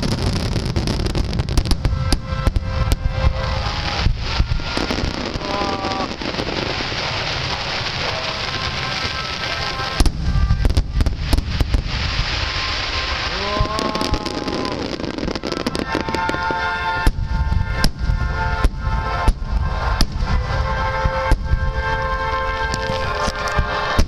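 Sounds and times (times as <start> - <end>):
crackling fireworks: 0.0 - 24.0.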